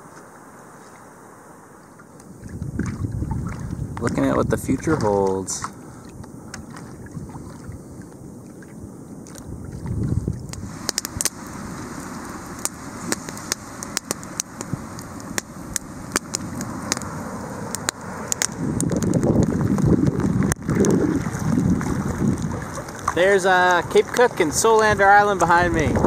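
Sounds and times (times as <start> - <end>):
wind: 0.0 - 26.0
choppy water: 1.8 - 26.0
campfire crackling and popping: 2.0 - 26.0.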